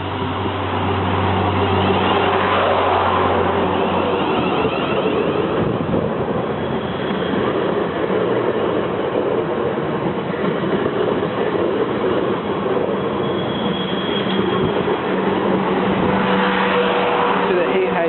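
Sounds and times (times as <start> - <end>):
electric train running: 0.0 - 18.0.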